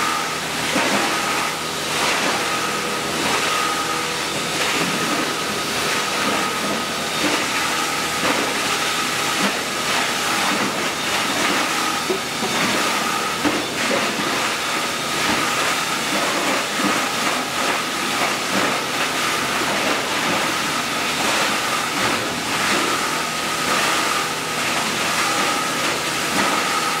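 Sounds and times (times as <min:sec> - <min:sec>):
rushing machinery noise: 0:00.0 - 0:27.0.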